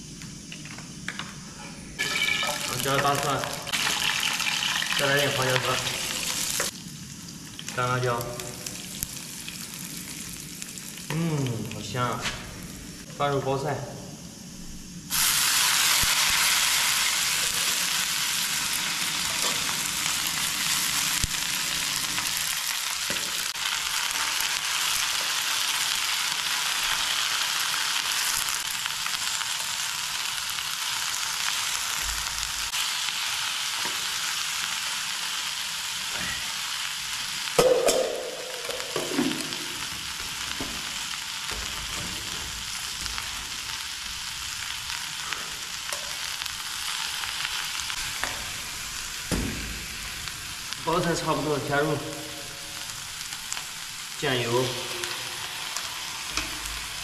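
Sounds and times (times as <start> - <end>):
cabbage sizzling in hot oil: 0.0 - 57.0.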